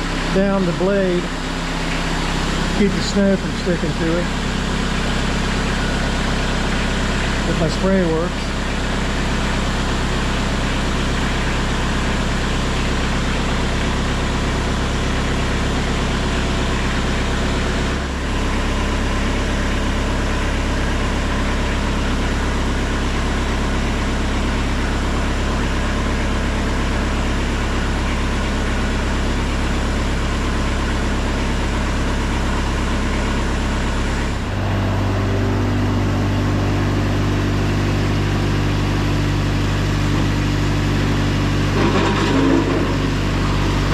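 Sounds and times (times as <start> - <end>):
diesel tractor engine idling: 0.0 - 43.9.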